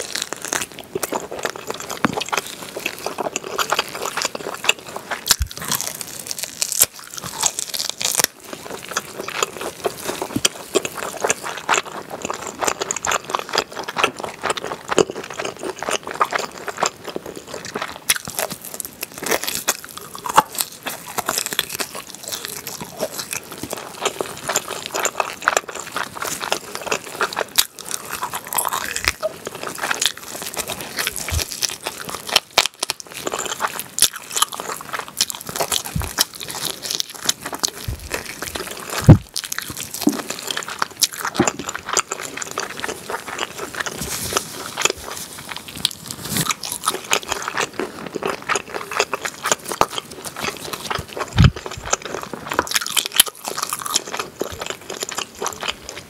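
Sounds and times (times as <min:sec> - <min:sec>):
person biting and chewing ribs: 0:00.0 - 0:56.0.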